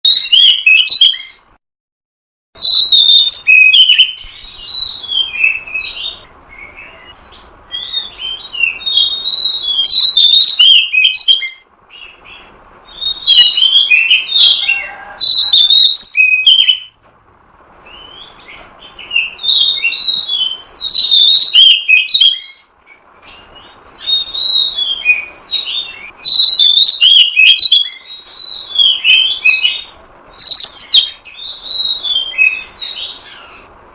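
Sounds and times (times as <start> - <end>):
bird singing whistles and chirps: 0.0 - 1.5, 2.6 - 17.0, 17.8 - 33.7.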